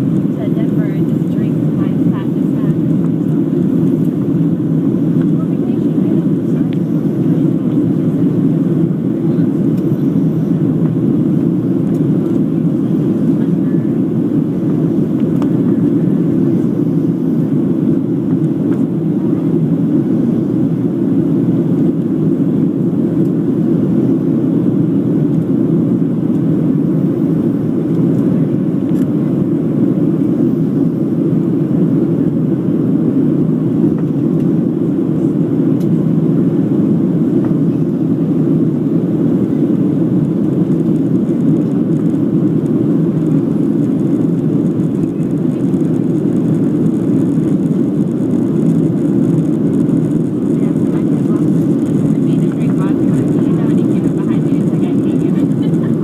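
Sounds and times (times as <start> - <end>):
jet engine cabin noise: 0.0 - 56.0.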